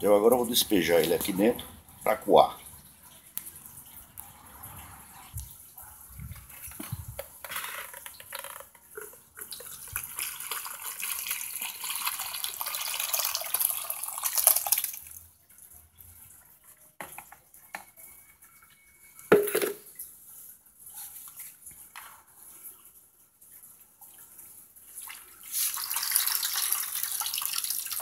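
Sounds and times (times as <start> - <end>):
water pouring and splashing: 0.0 - 28.0.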